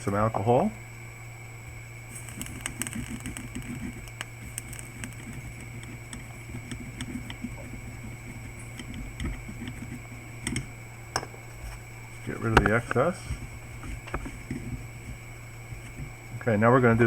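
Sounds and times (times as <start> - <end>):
steady electrical hum: 0.0 - 17.0
scratchy rubbing with small ticks: 0.8 - 17.0.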